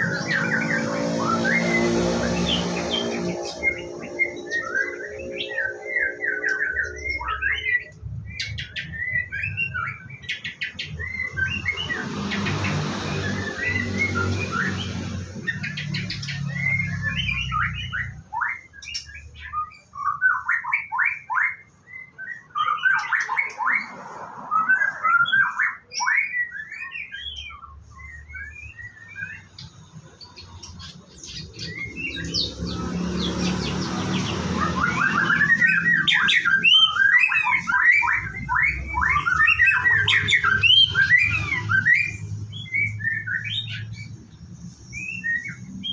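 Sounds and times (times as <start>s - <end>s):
shamas chirping and singing: 0.0s - 45.9s.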